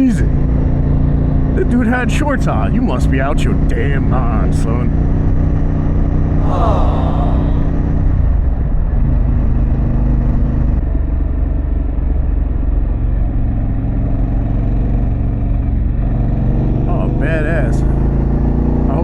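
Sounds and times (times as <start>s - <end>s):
motorcycle engine at road speed: 0.0s - 19.0s.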